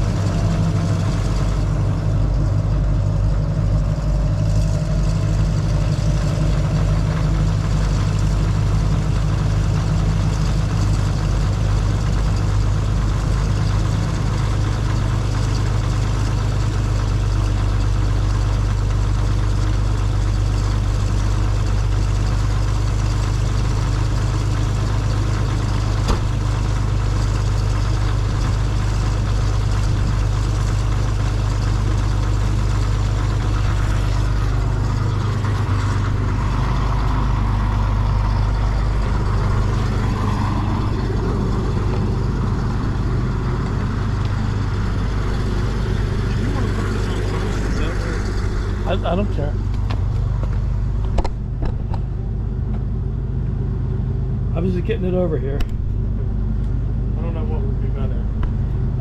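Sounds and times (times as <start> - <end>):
heavy diesel engine idling: 0.0 - 59.0.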